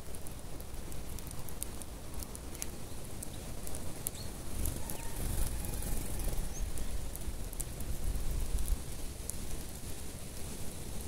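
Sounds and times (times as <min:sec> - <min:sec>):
birds pecking ticks: 0:00.0 - 0:09.6.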